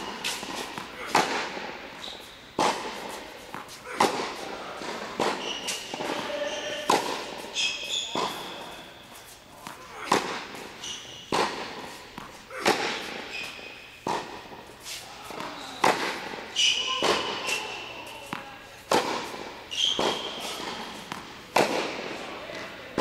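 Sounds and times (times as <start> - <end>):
tennis ball hits and bounces: 0.0 - 1.6, 2.6 - 8.8, 9.6 - 14.6, 15.2 - 23.0
shoe soles squeaking on court: 0.0 - 22.7.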